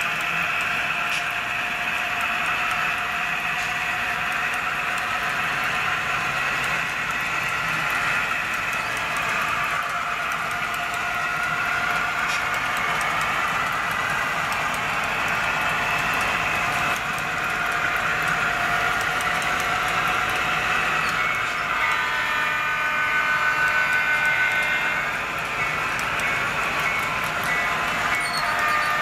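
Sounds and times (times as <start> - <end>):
faint ticking from the track: 0.0 - 29.0
model locomotive engine drone: 0.0 - 29.0.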